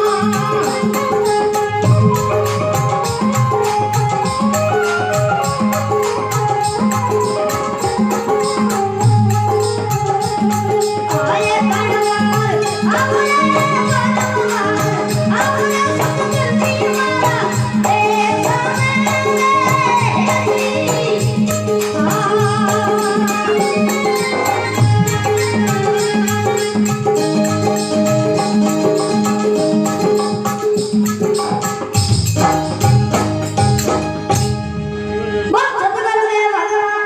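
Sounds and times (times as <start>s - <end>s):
percussion beat and rattle: 0.0s - 34.8s
high wavering melody: 0.0s - 35.6s
devotional folk music: 0.0s - 37.0s.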